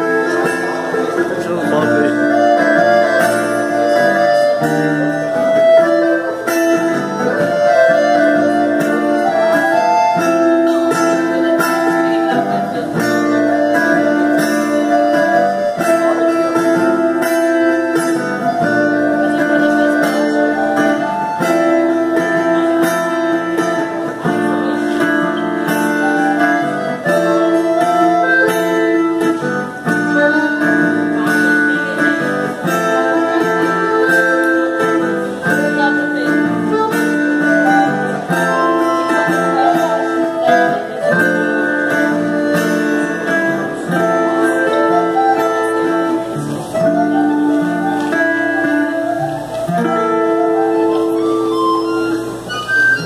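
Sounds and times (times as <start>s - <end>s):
accordion chords: 0.0s - 53.0s
plucked guitar notes: 0.0s - 53.0s.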